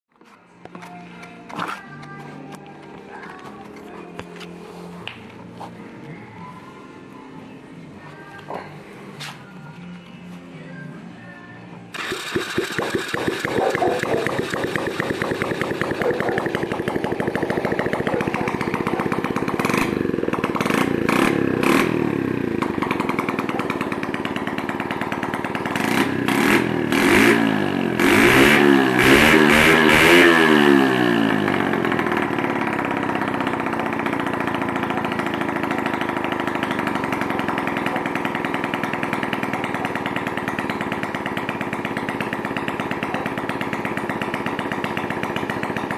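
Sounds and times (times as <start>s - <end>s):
motorcycle engine revving and idling: 0.2s - 45.9s.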